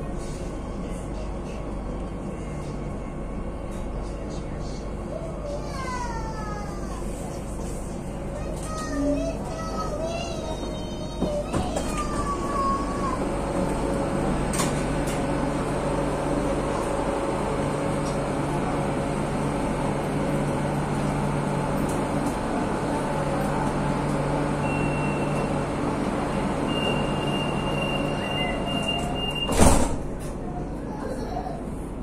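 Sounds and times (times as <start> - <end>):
train rail rumble: 0.0 - 30.5.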